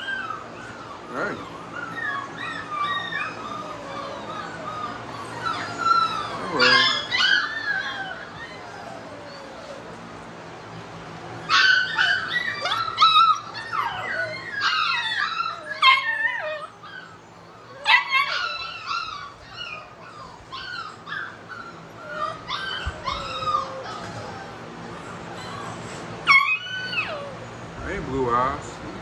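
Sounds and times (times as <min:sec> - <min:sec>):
puppies yipping and whining: 0:00.0 - 0:29.0.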